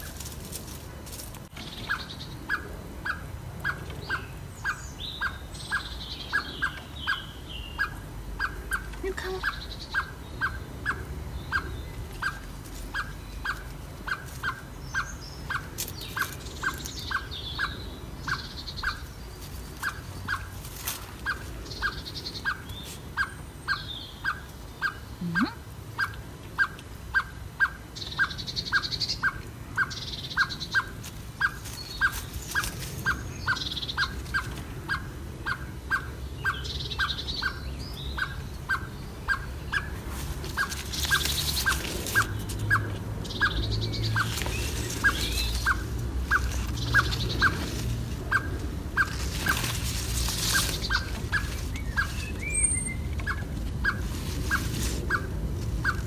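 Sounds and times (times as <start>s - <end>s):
higher birdsong: 1.5s - 56.0s.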